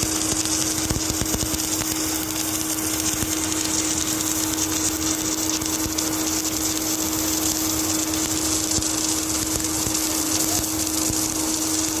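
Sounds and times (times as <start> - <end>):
welding machine hiss and whir: 0.0 - 12.0.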